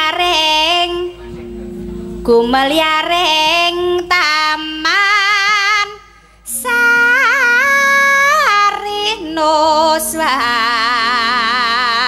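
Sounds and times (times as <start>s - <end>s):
woman singing with vibrato: 0.0s - 1.2s, 2.2s - 12.0s
quiet instrumental accompaniment: 0.0s - 12.0s.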